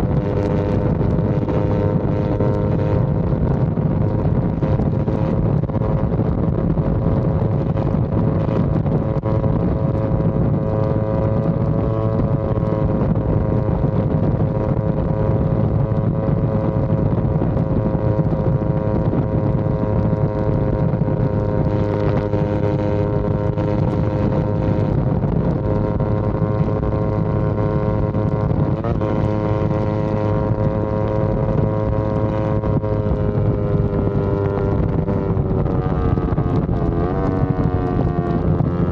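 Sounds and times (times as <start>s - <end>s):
motorcycle engine and exhaust running: 0.0s - 38.9s
wind noise on microphone: 0.0s - 38.9s.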